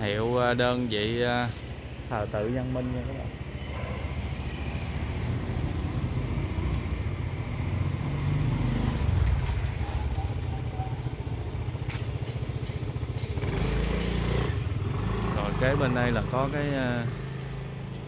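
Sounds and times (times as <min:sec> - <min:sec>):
motorcycle engine running: 0:00.1 - 0:18.0.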